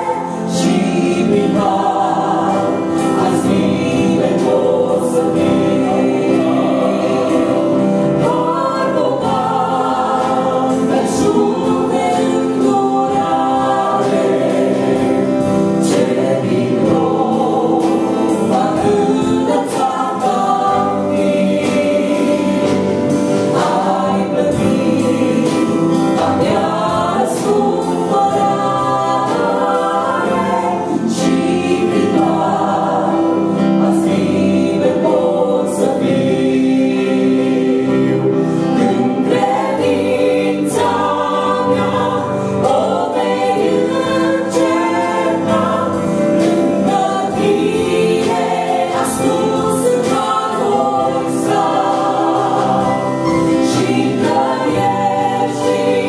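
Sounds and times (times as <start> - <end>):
vocal group singing in harmony: 0.0 - 56.0.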